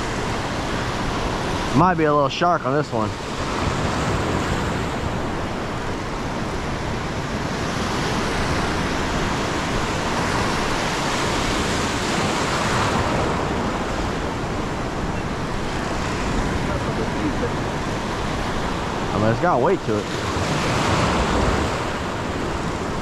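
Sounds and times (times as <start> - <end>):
surf breaking on beach: 0.0 - 23.0.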